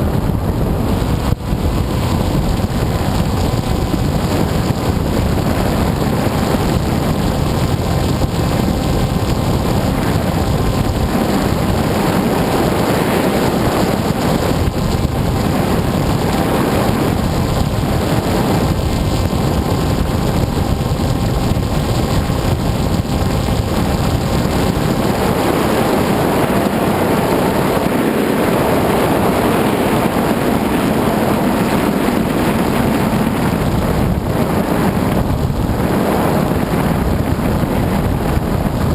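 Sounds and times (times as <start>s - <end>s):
motor and propeller whine: 0.0s - 38.9s
wind rushing over microphone: 0.0s - 38.9s.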